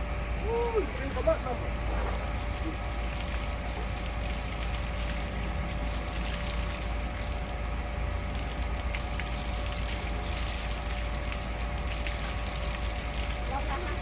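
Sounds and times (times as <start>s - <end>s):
water running from a hose: 0.4s - 14.0s.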